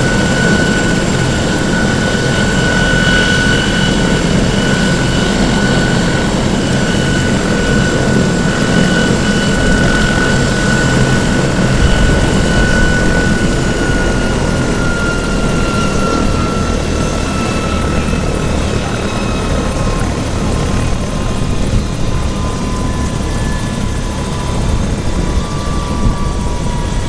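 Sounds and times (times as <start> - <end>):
helicopter rotor and engine roar: 0.0 - 27.0
high turbine whine: 0.0 - 27.0.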